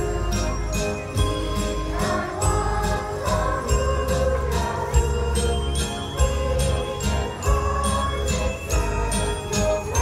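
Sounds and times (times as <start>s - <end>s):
christmas music: 0.0s - 10.0s
jingle bells shaken on a beat: 0.0s - 10.0s.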